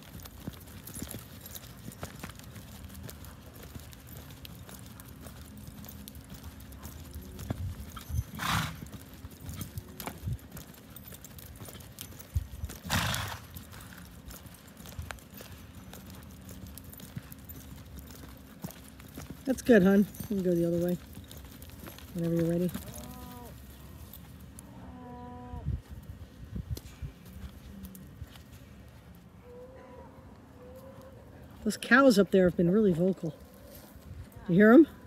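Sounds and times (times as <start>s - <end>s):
hoofbeats in soft sand: 0.0s - 35.0s.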